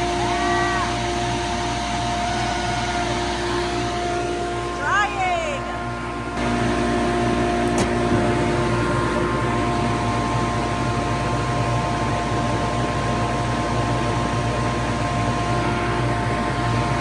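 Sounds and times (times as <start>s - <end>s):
grain dryer mechanical drone: 0.0s - 17.0s.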